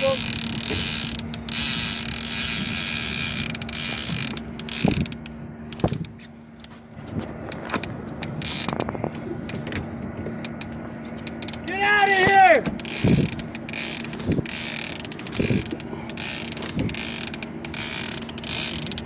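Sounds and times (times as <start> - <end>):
fishing reel gears whirring: 0.0 - 6.8, 7.5 - 9.8, 10.4 - 19.0
steady low hum: 0.0 - 19.0.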